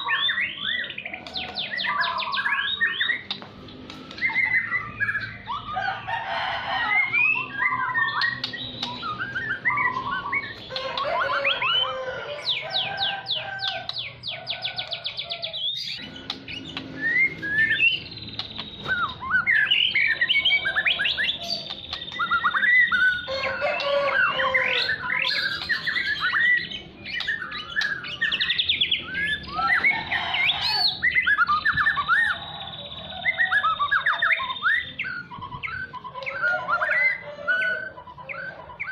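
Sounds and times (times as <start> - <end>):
songbird whistling song: 0.0 - 38.9.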